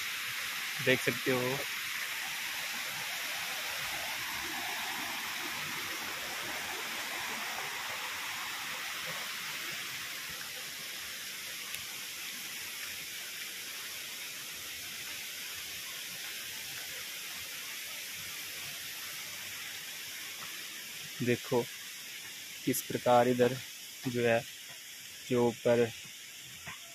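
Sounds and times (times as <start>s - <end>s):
flowing water rushing: 0.0s - 26.9s.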